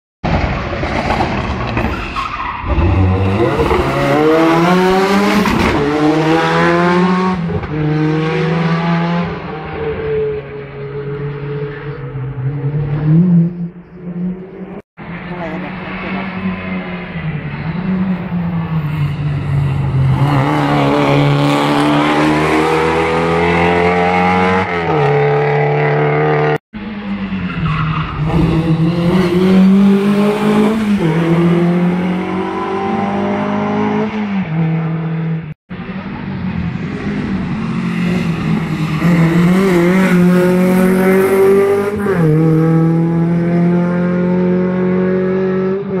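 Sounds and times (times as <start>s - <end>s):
rally car engine revving: 2.6s - 46.0s.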